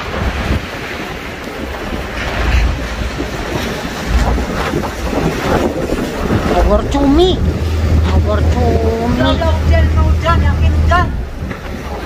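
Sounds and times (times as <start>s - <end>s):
sea waves: 0.0s - 12.0s
wind buffeting microphone: 0.0s - 12.0s.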